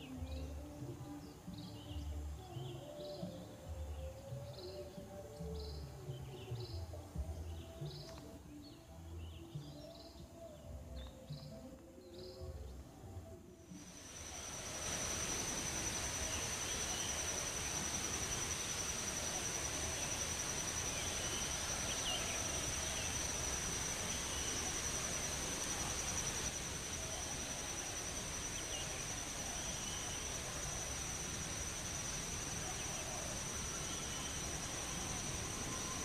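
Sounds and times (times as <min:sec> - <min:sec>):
faint outdoor hiss: 0:00.0 - 0:36.0
insects droning: 0:00.0 - 0:36.0.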